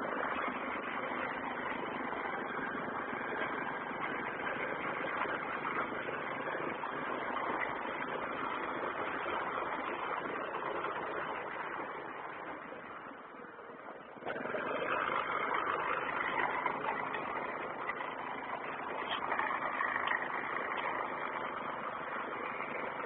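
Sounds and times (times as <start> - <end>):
continuous rushing noise: 0.0 - 23.0
vehicle engine running: 0.0 - 23.0.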